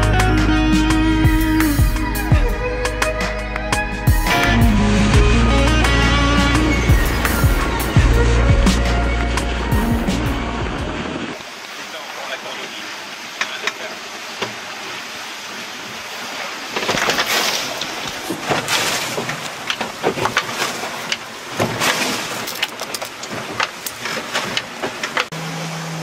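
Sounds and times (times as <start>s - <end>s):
water rushing along hulls: 0.0s - 26.0s
wind: 0.0s - 26.0s.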